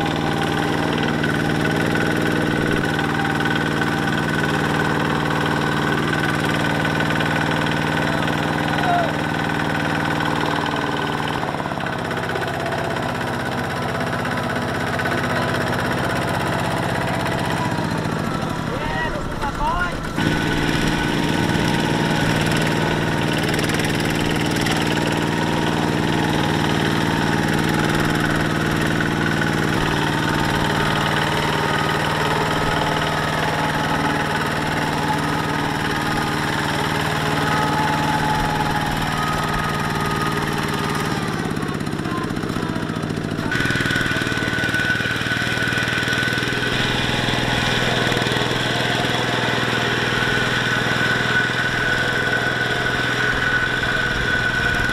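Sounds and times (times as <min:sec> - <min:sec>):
diesel tractor engine running: 0:00.0 - 0:54.9.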